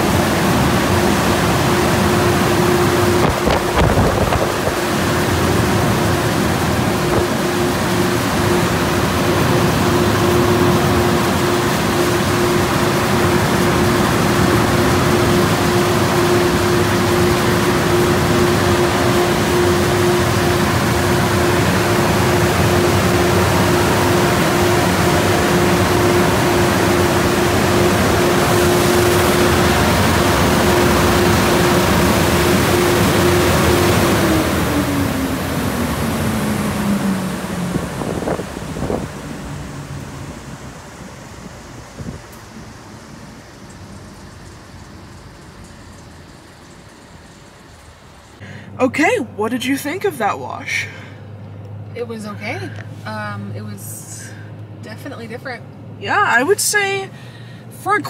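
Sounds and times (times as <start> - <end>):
blower dryers rushing air: 0.0 - 58.0
steady hum: 0.0 - 58.0.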